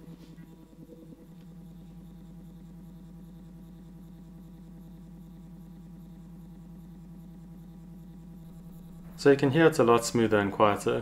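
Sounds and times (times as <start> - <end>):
stepper motor humming: 0.0 - 11.0.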